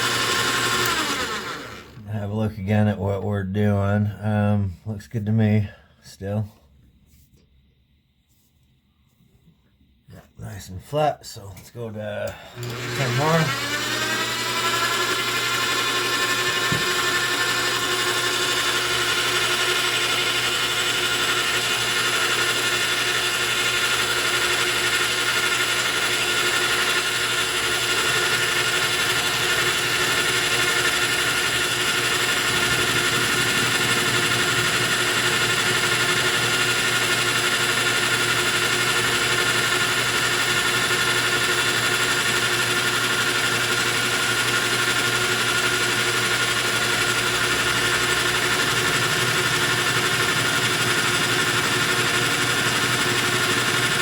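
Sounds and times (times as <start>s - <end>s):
metal lathe whining: 0.0s - 2.0s, 12.3s - 54.0s.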